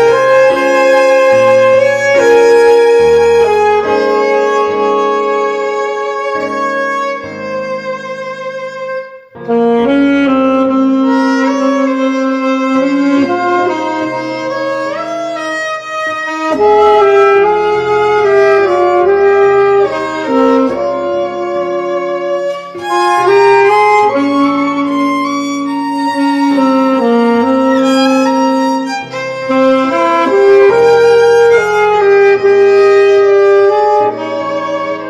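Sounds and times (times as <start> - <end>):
saxophone melody with accompaniment: 0.0 - 35.0.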